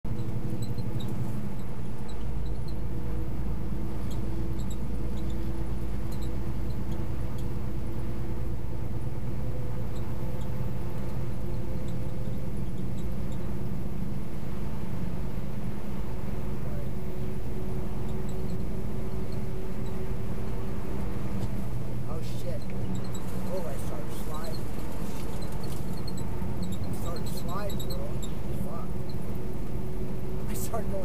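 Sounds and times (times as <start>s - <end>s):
truck engine and tyres rumble: 0.0s - 31.0s.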